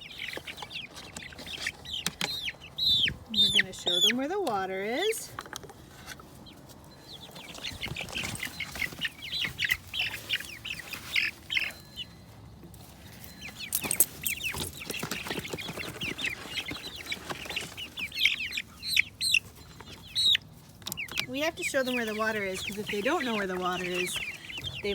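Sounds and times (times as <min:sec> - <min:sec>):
chicks peeping and clucking: 0:00.0 - 0:24.9.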